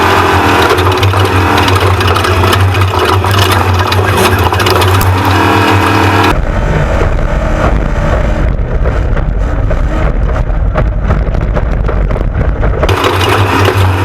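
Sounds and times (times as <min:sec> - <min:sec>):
truck engine under load: 0:00.0 - 0:14.0
chassis knocks and jolts: 0:00.4 - 0:14.0.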